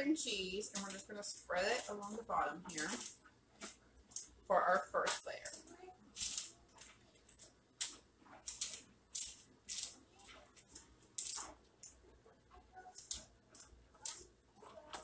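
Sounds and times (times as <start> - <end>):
parchment paper rustling: 0.0 - 15.0.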